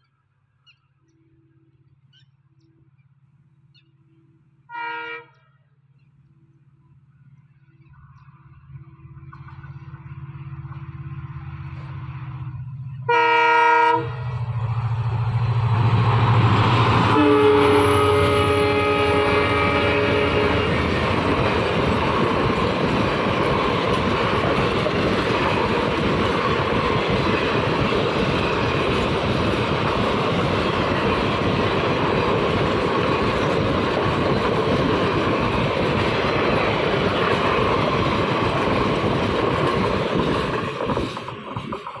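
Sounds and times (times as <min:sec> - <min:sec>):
train wheels rumbling on rails: 0:05.3 - 0:42.0.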